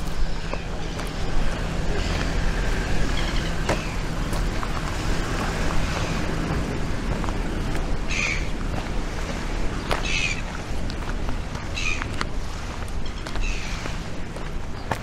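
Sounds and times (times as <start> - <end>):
car engine rumbling: 0.0 - 15.0
street noise: 0.0 - 15.0.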